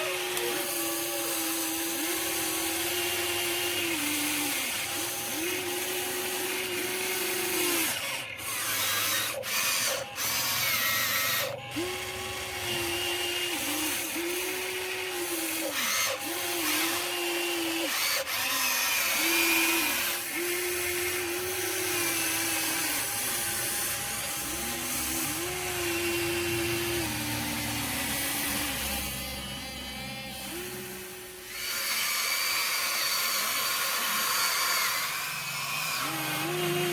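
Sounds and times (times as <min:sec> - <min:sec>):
small electric motors whining: 0:00.0 - 0:36.9.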